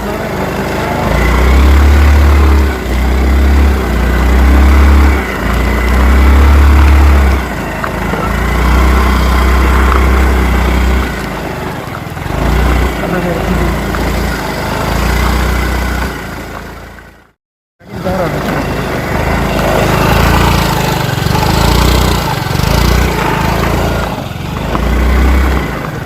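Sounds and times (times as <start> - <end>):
scooter engine running: 0.0 - 26.0.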